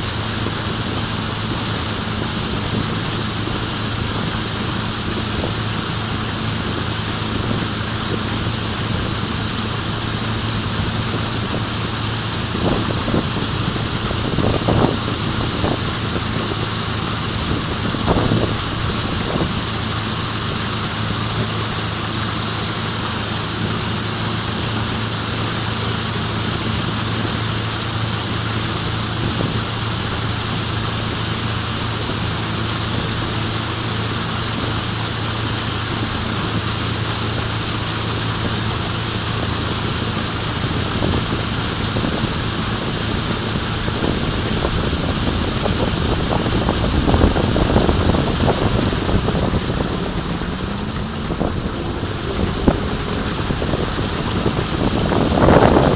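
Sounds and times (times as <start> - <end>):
jet ski engine humming: 0.0 - 55.9
rush of wind and water: 0.0 - 55.9.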